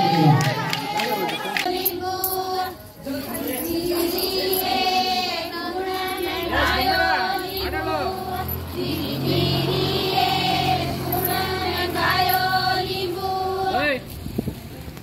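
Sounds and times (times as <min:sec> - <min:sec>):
group singing together: 0:00.0 - 0:14.0.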